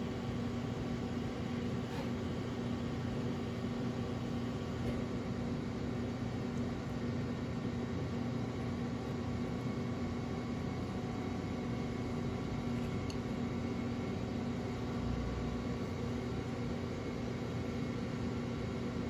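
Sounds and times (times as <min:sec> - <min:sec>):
mechanical hum with hiss: 0:00.0 - 0:19.0.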